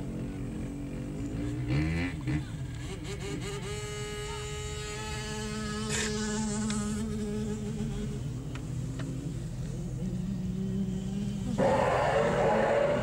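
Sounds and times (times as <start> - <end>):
small motorbike engine buzzing: 0.0 - 13.0
low rumble inside car: 2.4 - 13.0.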